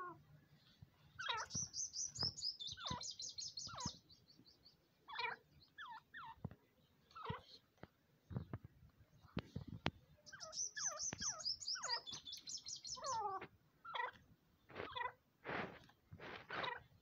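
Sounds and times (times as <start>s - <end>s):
bird chirping calls: 0.0s - 15.2s.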